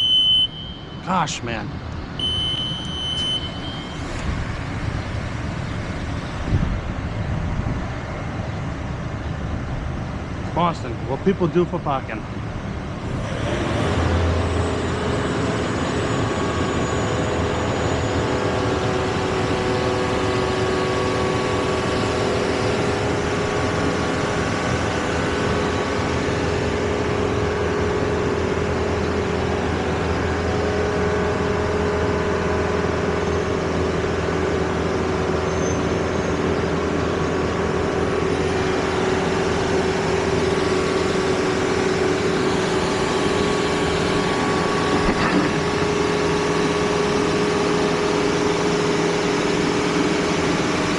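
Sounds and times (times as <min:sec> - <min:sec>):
vehicle engine and road noise: 0:00.0 - 0:50.9.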